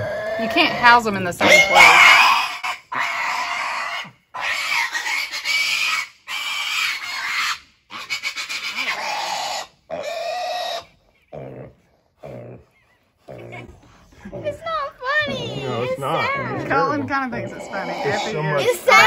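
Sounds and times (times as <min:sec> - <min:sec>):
piglet squealing: 0:00.0 - 0:11.5, 0:12.7 - 0:19.0.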